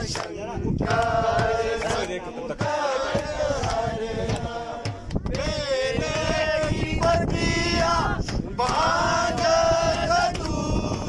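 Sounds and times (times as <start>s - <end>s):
man singing chant-like melody: 0.0s - 11.0s.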